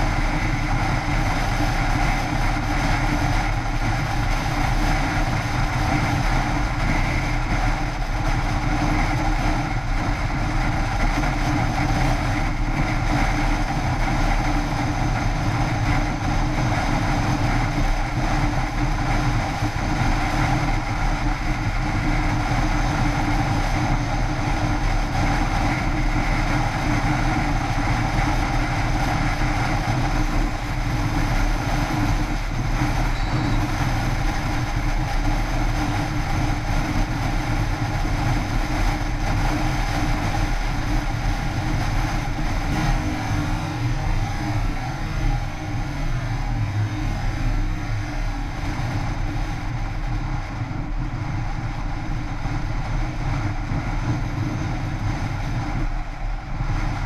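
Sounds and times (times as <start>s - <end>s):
scooter engine drone: 0.0s - 57.0s
wind rush: 0.0s - 57.0s.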